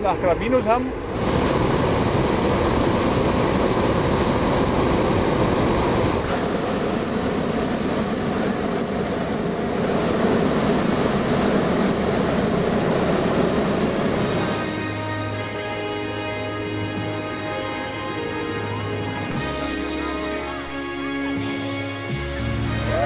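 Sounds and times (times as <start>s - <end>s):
propane burner rushing: 0.0s - 19.9s.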